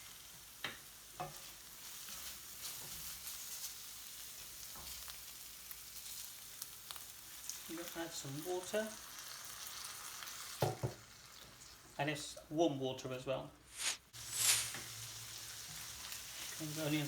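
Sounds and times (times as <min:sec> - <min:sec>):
onions sizzling in a pan: 0:00.0 - 0:12.0, 0:13.7 - 0:17.0.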